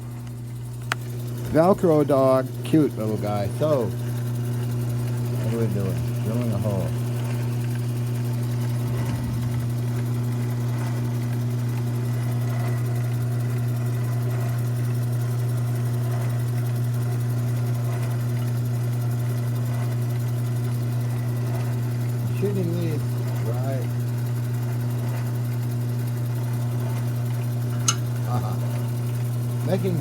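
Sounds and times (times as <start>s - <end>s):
lathe motor humming: 0.0s - 30.0s.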